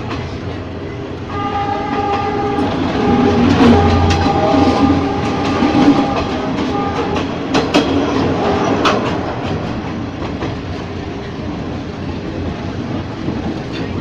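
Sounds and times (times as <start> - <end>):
electric train running: 0.0 - 14.0
wheels clicking on rails: 0.0 - 14.0.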